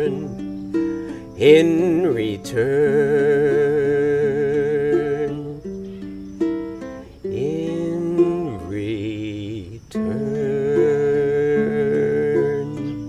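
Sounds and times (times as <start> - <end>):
person singing wordless notes: 0.0 - 13.0
ukulele: 0.0 - 13.0.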